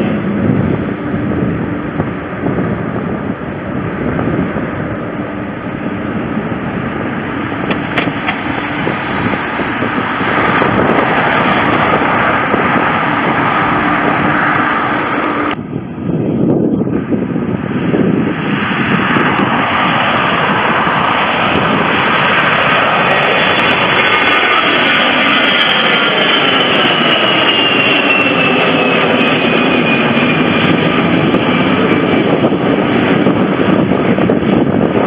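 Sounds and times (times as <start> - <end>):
jet engines roaring: 0.0 - 35.0
wind noise on microphone: 0.0 - 35.0.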